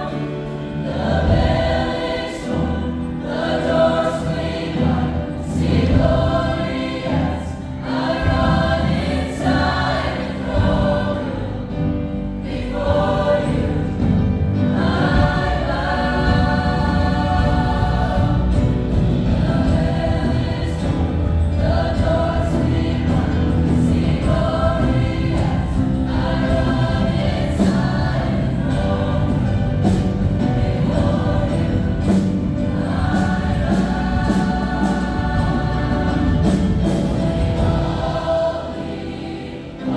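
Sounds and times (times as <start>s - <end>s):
choir singing gospel music: 0.0s - 39.9s.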